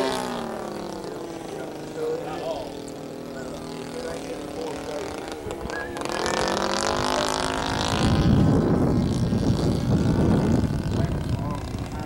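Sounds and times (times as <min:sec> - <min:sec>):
model plane engine in flight: 0:00.0 - 0:12.0.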